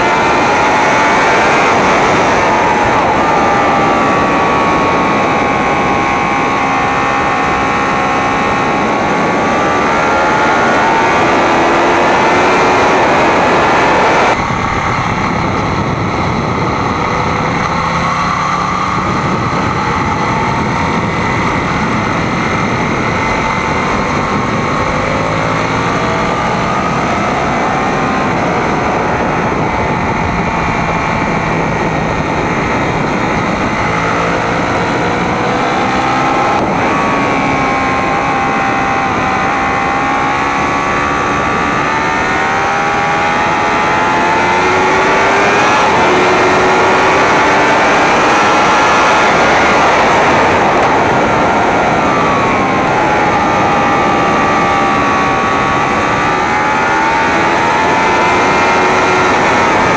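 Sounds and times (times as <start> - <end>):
motorcycle engine accelerating: 0.0 - 59.9
wind and road noise: 0.0 - 59.9.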